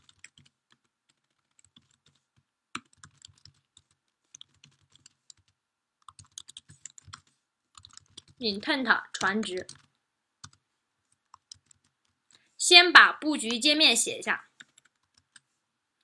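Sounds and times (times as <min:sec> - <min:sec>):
faint keyboard typing: 0:00.0 - 0:12.6, 0:13.2 - 0:15.6.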